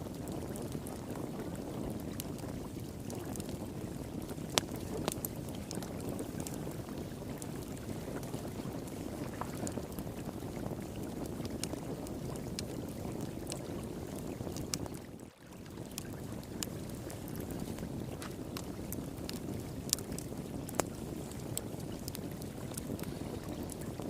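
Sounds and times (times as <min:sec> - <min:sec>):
flowing water: 0:00.0 - 0:24.0
wood fire crackling: 0:00.0 - 0:24.0.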